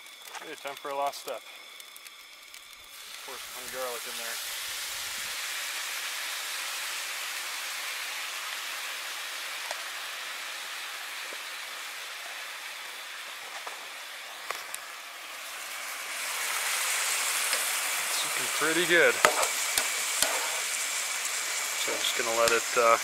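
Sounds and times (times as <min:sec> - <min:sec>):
rice sizzling in a frying pan: 0:00.0 - 0:23.0.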